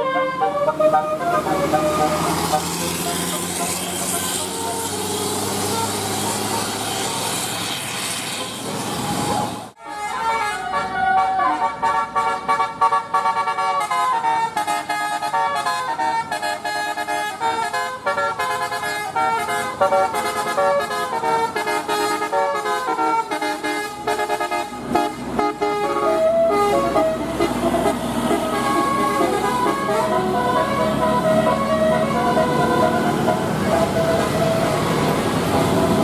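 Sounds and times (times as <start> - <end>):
multi-tone musical air horn: 0.0 - 7.4, 9.2 - 36.0.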